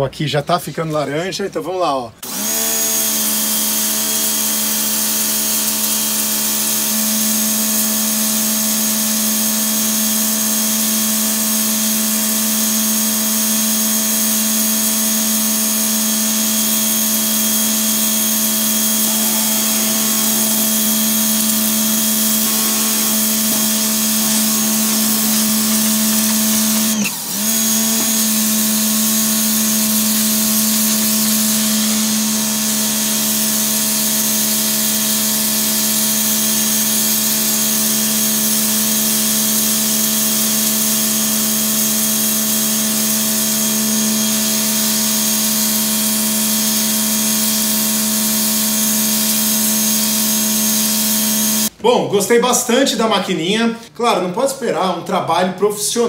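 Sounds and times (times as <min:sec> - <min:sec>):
pressure washer motor humming: 0:02.2 - 0:51.7.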